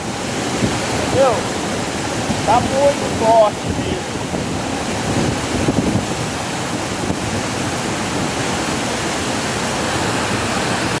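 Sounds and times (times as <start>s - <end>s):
loud waterfall rushing: 0.0s - 11.0s.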